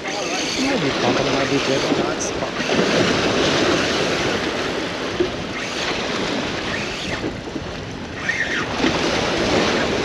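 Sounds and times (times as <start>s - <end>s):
surf washing: 0.0s - 10.0s
wind on microphone: 0.0s - 10.0s.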